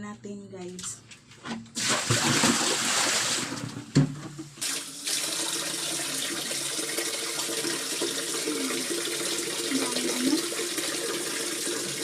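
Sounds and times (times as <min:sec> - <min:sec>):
tap water running into basin: 0:01.8 - 0:12.0.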